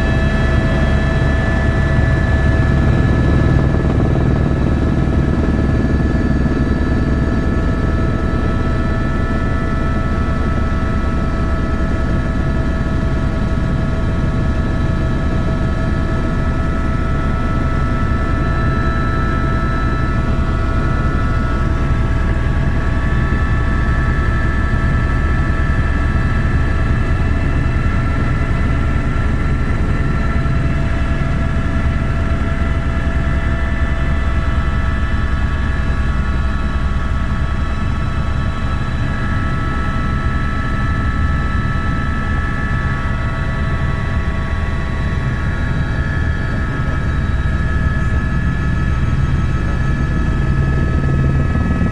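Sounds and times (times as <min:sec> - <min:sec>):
helicopter running: 0:00.0 - 0:51.9.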